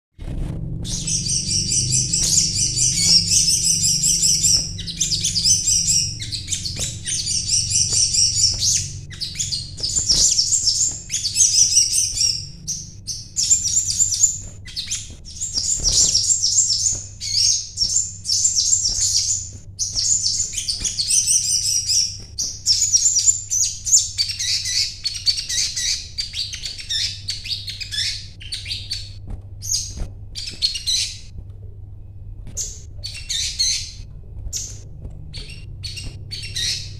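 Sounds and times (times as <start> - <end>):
bird singing chattering trills: 0.8 - 31.3, 32.6 - 36.9.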